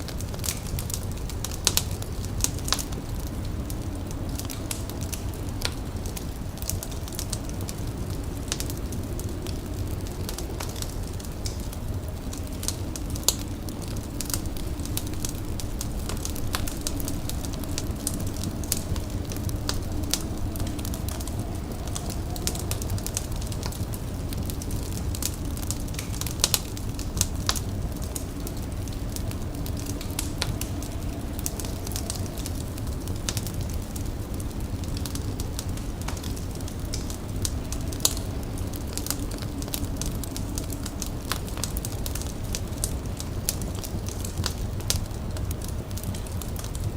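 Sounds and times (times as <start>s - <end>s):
wood fire crackling: 0.0s - 46.9s
low rumble: 0.2s - 46.9s.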